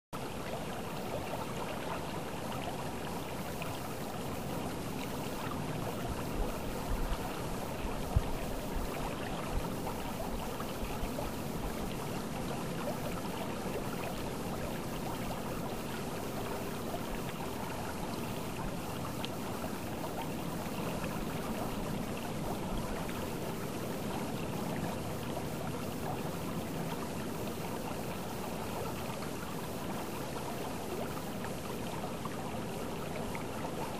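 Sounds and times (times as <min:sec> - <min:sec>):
river water flowing: 0:00.2 - 0:33.9.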